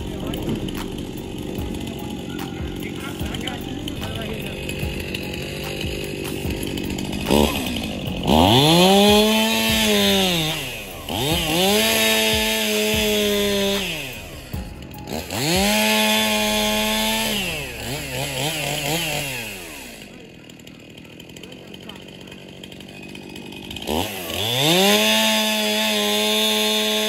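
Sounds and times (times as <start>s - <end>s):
chainsaw revving: 0.0s - 27.0s.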